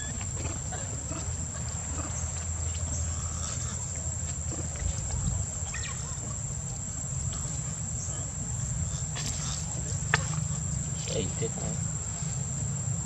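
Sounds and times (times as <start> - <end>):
high-pitched insect whine: 0.0 - 13.0.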